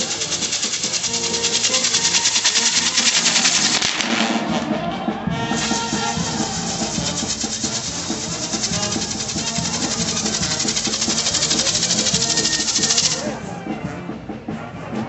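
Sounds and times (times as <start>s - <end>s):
fireworks crackling and fizzing: 0.0s - 4.8s, 5.6s - 13.4s
music playing: 0.0s - 15.0s.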